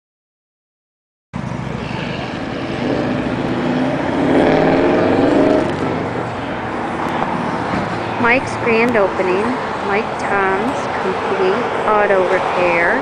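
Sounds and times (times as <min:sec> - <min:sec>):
vehicle engine passing by: 0:01.4 - 0:12.8
outdoor traffic noise: 0:01.4 - 0:13.0.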